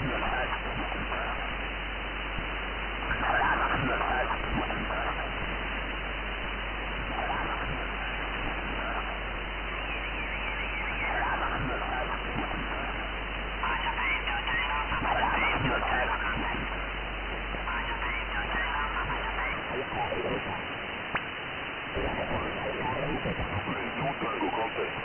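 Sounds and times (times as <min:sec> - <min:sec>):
radio band hiss: 0:00.0 - 0:25.0
garbled radio voices: 0:03.0 - 0:05.6, 0:06.9 - 0:25.0.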